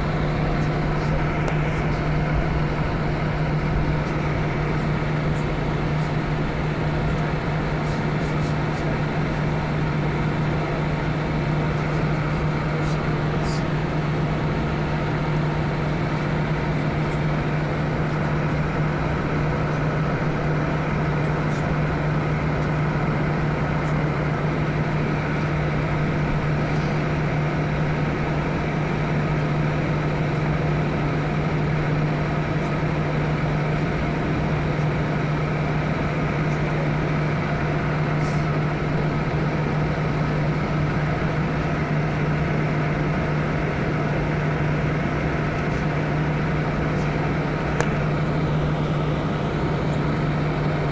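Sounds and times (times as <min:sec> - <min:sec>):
airplane cabin drone: 0:00.0 - 0:50.9.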